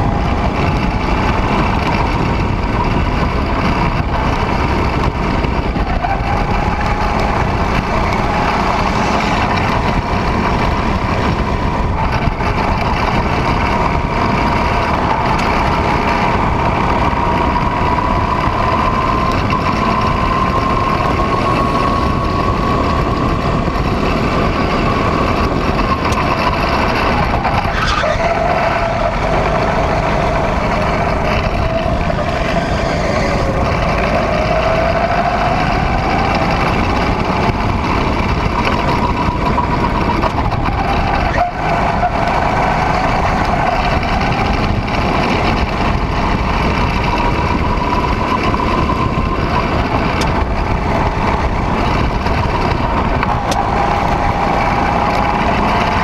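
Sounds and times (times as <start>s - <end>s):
go-kart engine: 0.0s - 56.0s.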